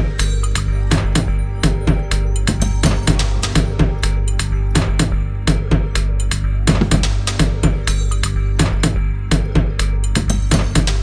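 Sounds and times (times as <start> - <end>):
steady drum beat: 0.0 - 11.0
sustained bass notes: 0.0 - 11.0.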